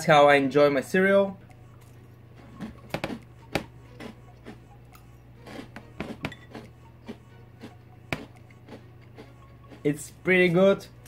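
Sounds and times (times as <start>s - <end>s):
chewing dry cereal: 1.5s - 10.4s.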